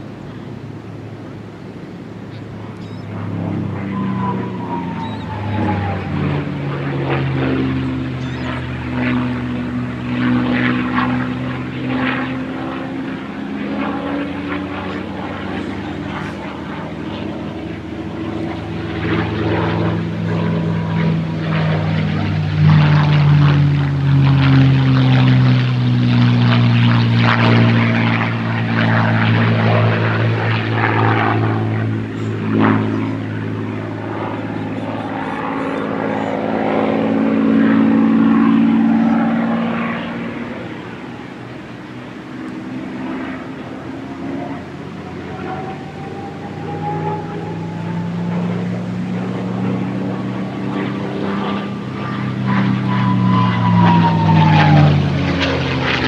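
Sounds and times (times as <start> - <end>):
propeller plane droning in flight: 0.0 - 56.0.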